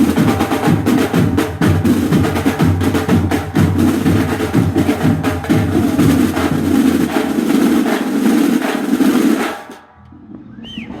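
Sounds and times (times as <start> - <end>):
snare and bass drum roll: 0.0 - 9.8.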